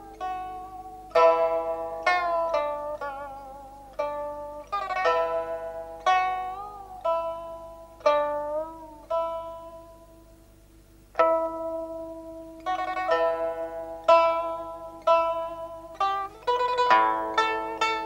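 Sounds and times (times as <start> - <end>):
plucked string instrument: 0.0 - 18.0.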